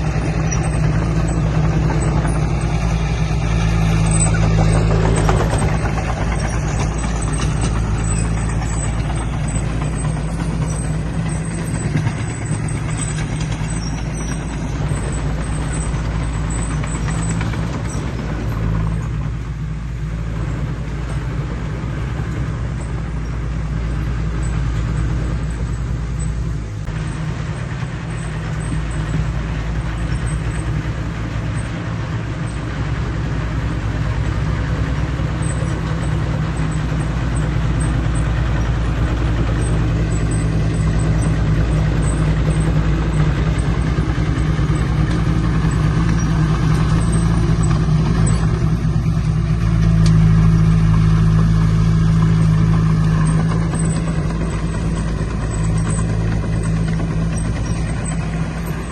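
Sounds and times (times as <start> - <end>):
mechanical clatter: 0.0 - 19.5, 24.8 - 58.9
diesel engine droning: 0.0 - 58.9.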